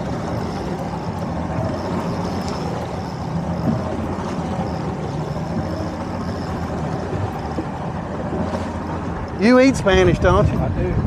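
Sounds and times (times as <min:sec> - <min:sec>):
outboard motor running: 0:00.0 - 0:11.0
water rushing along hull: 0:00.0 - 0:11.0
wind: 0:00.0 - 0:11.0.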